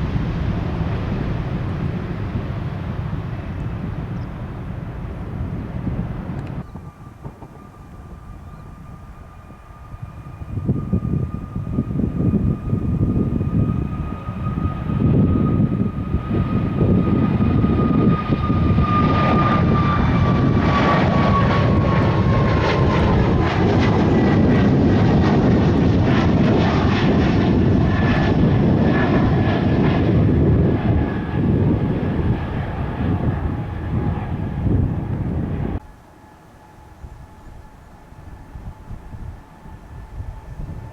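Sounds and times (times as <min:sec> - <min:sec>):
jet engines passing by: 0:00.0 - 0:40.9.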